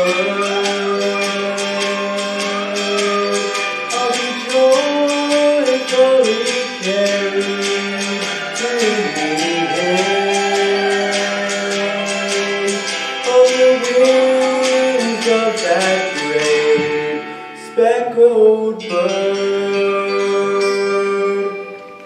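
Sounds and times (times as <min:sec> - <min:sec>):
plucked string instrument strumming: 0:00.0 - 0:22.0
sustained notes: 0:00.0 - 0:22.0.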